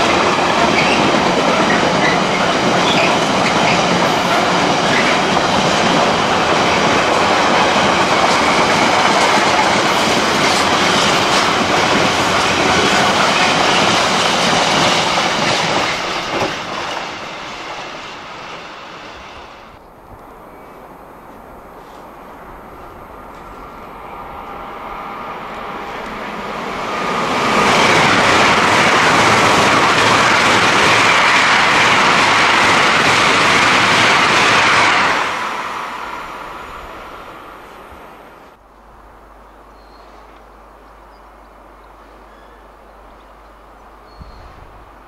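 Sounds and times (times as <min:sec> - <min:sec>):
train passing: 0:00.0 - 0:45.0.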